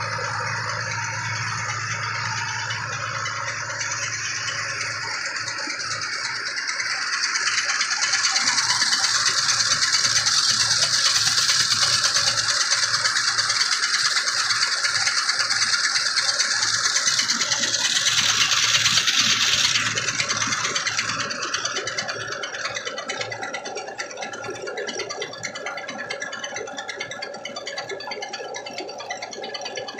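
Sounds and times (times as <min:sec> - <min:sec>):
rice mill machinery rattling: 0:00.0 - 0:29.9.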